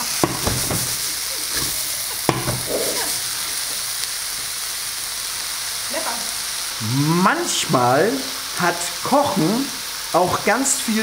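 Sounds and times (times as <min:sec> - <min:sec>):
cabbage sizzling in a pan: 0:00.0 - 0:11.0.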